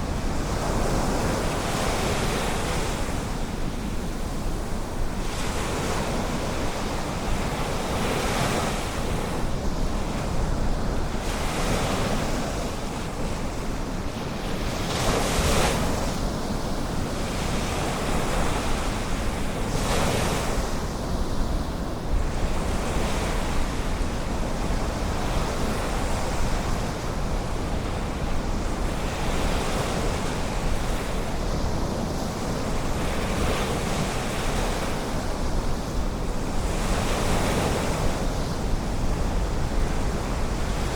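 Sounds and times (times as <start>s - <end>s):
low wind rumble on microphone: 0.0s - 40.9s.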